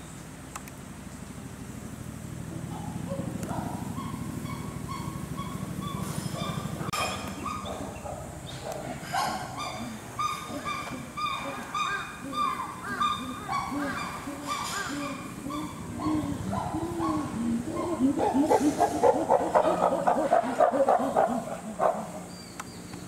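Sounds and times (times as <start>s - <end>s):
chimpanzees hooting: 2.8s - 22.4s.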